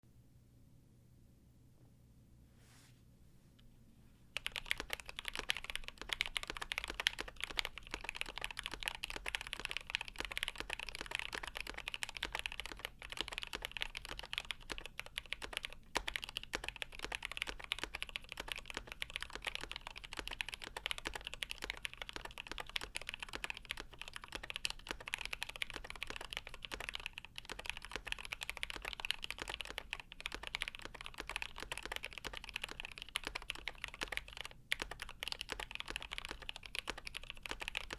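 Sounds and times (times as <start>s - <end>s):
fast mechanical keyboard typing: 4.4s - 37.9s.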